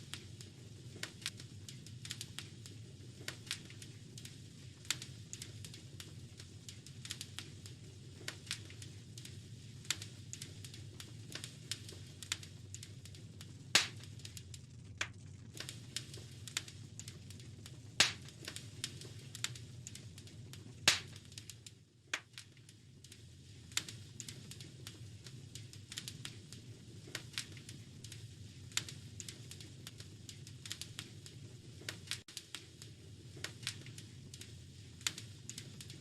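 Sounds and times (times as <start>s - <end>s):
low fire rumble: 0.0s - 36.0s
wood fire pops and snaps: 0.0s - 36.0s.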